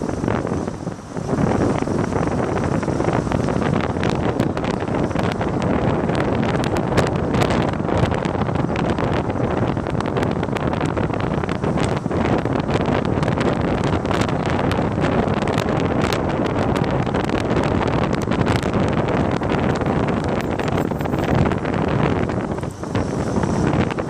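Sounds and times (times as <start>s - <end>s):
city traffic hum: 0.0s - 24.0s
wind buffeting microphone: 0.0s - 24.0s.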